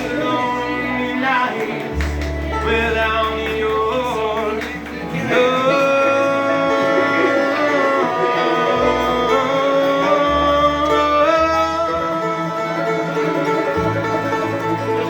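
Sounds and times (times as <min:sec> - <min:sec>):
bluegrass instrumental music: 0:00.0 - 0:15.0.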